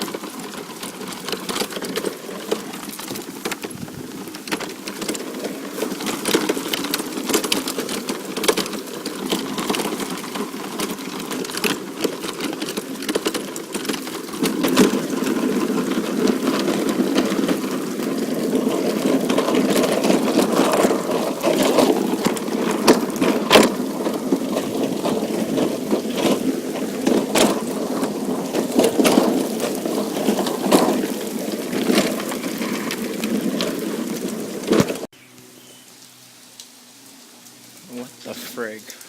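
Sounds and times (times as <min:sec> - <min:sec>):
heavy rain falling: 0:00.0 - 0:35.1, 0:35.8 - 0:39.0
raindrops hitting close by: 0:00.0 - 0:39.0.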